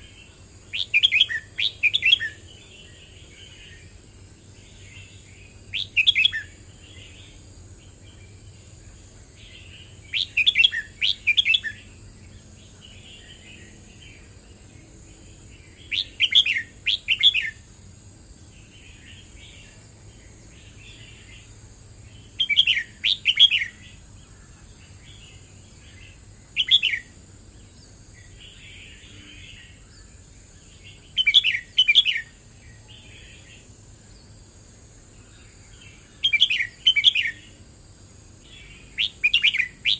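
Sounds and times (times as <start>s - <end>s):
bird singing: 0.0s - 39.9s
faint high hiss: 0.0s - 39.9s.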